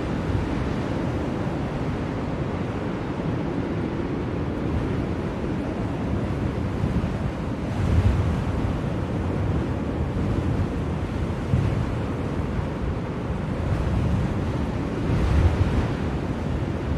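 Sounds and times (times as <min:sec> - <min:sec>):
blizzard wind rushing: 0:00.0 - 0:16.9.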